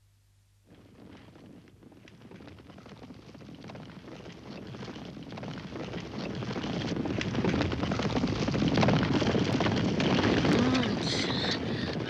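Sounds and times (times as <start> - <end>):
galloping horse hoofbeats: 0.6 - 12.0.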